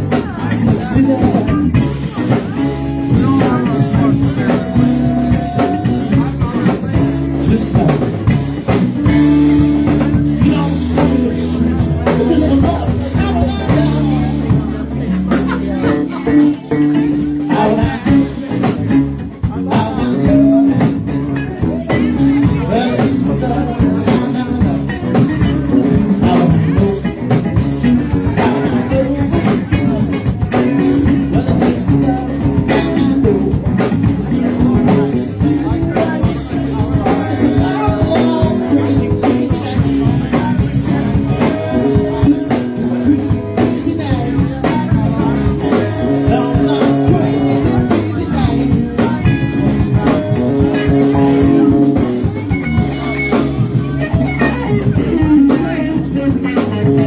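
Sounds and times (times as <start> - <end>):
electric guitar: 0.0 - 57.0
live blues-rock band: 0.0 - 57.0.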